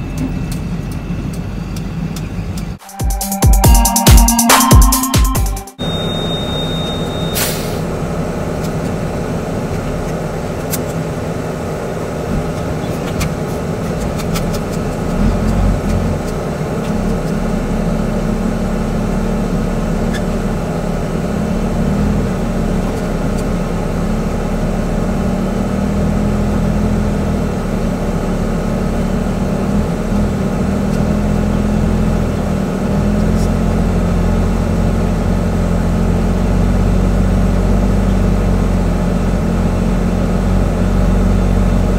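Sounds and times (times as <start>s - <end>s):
truck diesel engine running: 5.3s - 41.9s.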